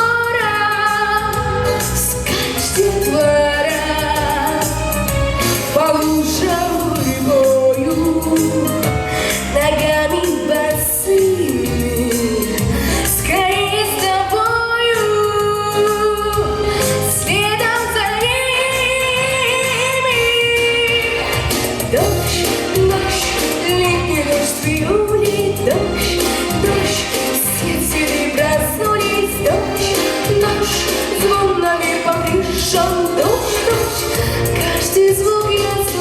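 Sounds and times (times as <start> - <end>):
girl singing pop song: 0.0 - 5.0, 5.6 - 36.0
instrumental accompaniment: 0.0 - 36.0.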